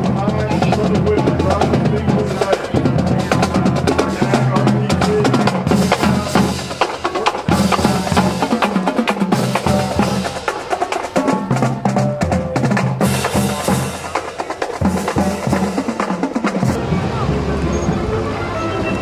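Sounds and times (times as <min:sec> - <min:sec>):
snare drums: 0:00.0 - 0:18.2
bass drums: 0:00.0 - 0:18.4
cymbals: 0:00.0 - 0:19.0
held brass notes: 0:00.0 - 0:19.0.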